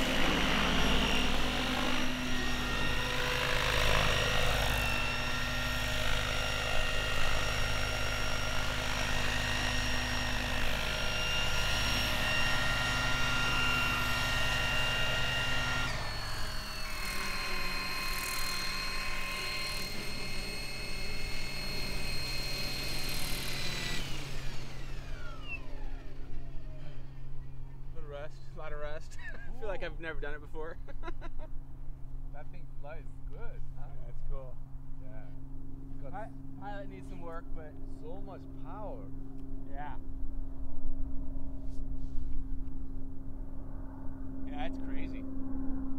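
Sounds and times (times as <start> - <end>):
rc helicopter motor and rotor whine: 0.0 - 31.4, 32.4 - 45.9.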